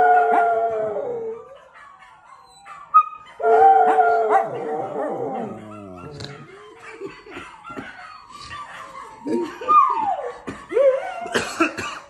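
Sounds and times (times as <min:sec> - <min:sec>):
dog howling: 0:00.0 - 0:11.3.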